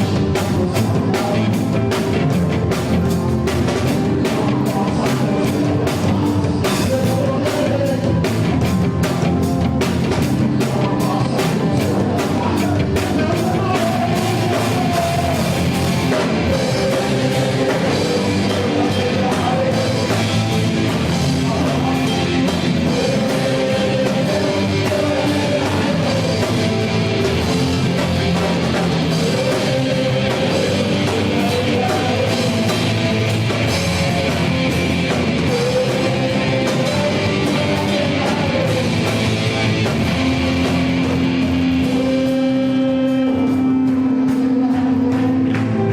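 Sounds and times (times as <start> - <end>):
person singing: 0.0 - 9.2, 10.0 - 45.9
drum kit: 0.0 - 45.9
guitars: 0.0 - 45.9
live rock band playing: 0.0 - 45.9.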